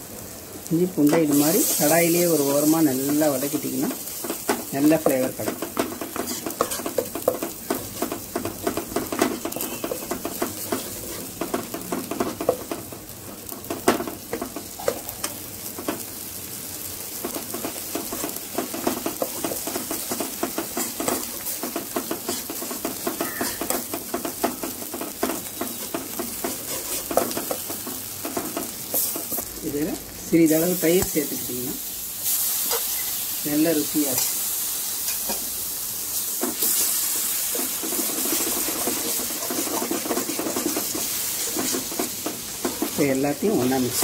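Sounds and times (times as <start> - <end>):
paste sizzling in oil: 0.0 - 44.0.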